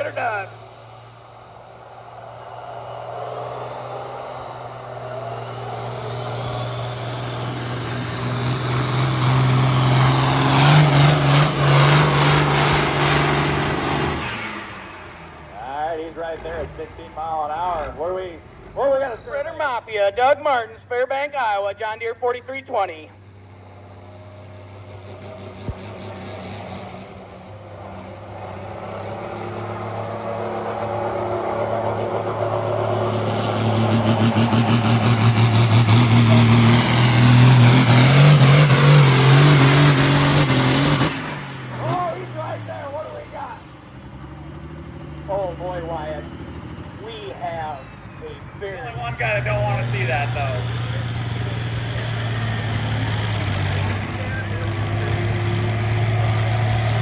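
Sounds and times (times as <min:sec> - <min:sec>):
tractor engine at full throttle: 0:00.0 - 0:21.7, 0:22.3 - 0:57.0.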